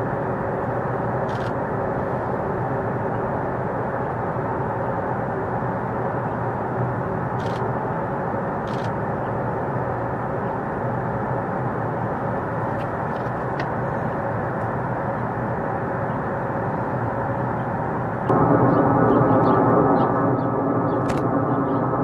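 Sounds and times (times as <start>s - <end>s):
distant jet engines rumbling: 0.0s - 22.0s.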